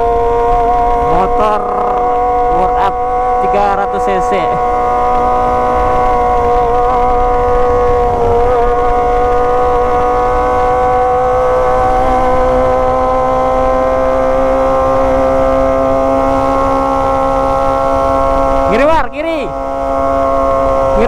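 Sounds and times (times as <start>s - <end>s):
wind on microphone: 0.0s - 18.8s
motorcycle engines at high revs: 0.0s - 21.0s.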